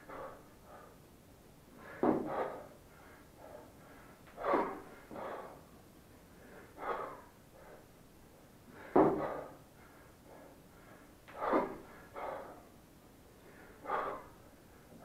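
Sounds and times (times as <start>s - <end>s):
man breathing forcefully: 0.0s - 15.0s.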